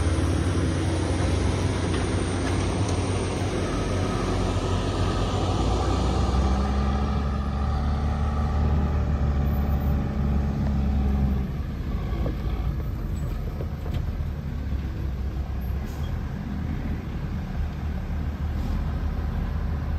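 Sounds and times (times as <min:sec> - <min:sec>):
diesel truck engine drone: 0:00.0 - 0:19.9.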